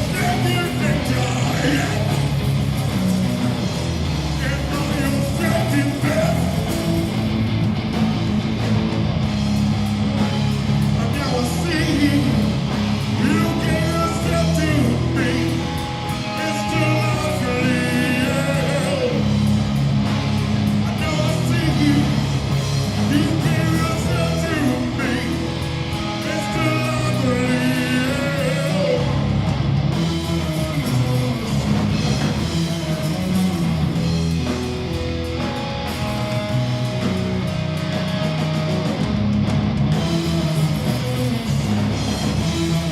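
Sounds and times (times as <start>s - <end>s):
electric guitar: 0.0s - 42.9s
live rock band playing: 0.0s - 42.9s.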